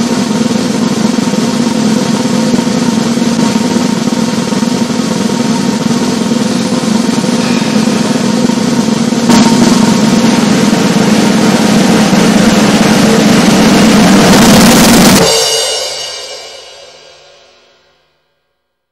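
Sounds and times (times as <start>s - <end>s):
snare drum roll: 0.0s - 17.2s
accented drum hit: 1.5s - 17.8s.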